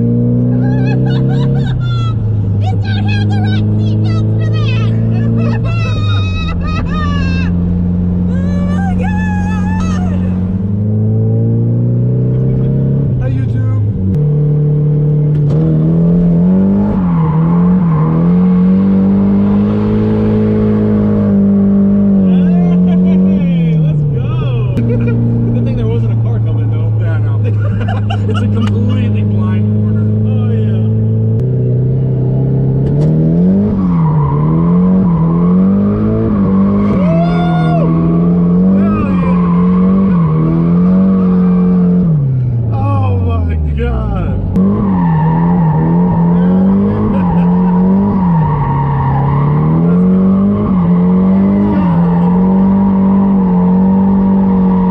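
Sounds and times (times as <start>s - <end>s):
car engine revving high: 0.0s - 54.9s.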